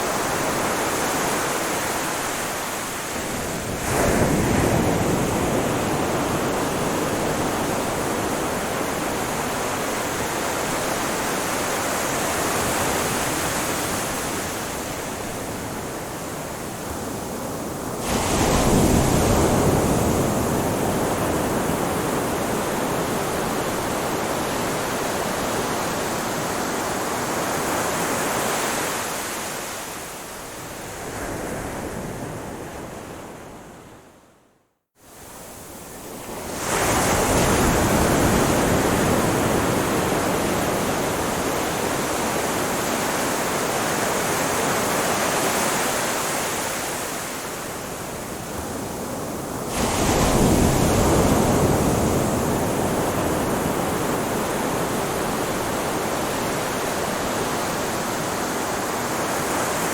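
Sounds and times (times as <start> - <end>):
ocean waves on shore: 0.0 - 34.3, 35.0 - 59.9.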